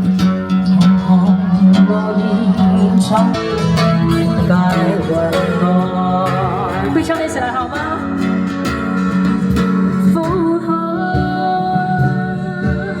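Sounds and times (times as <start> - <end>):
person singing: 0.0 - 8.5, 9.9 - 13.0
guitar accompaniment: 0.0 - 13.0.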